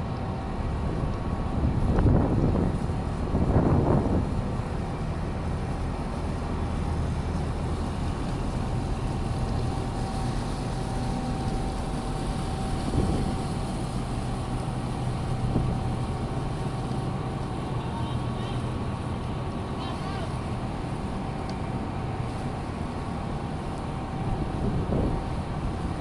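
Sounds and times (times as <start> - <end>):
boat engine humming: 0.0 - 26.0
thin steady whine: 0.0 - 26.0.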